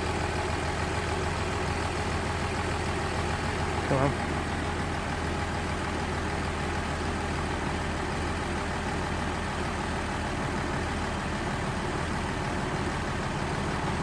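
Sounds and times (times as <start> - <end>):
car engine idling and misfiring: 0.0 - 14.0.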